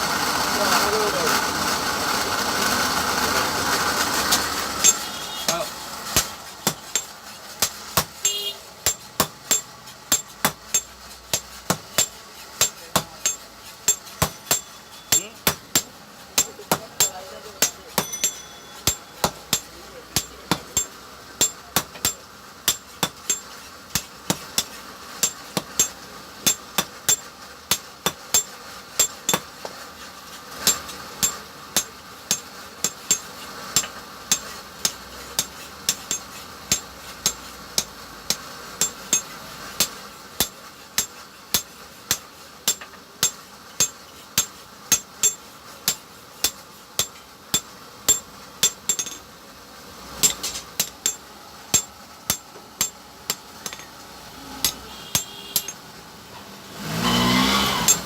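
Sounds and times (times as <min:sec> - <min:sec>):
hammer striking metal on anvil: 0:04.3 - 0:29.5, 0:30.6 - 0:49.3, 0:50.2 - 0:54.0, 0:54.6 - 0:55.8, 0:57.8 - 0:58.0.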